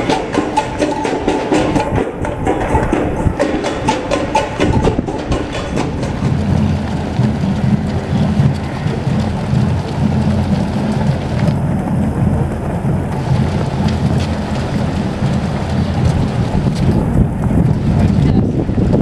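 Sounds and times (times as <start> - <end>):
runners' footsteps on asphalt: 0.0 - 19.0
wind rumbling on microphone: 0.0 - 19.0.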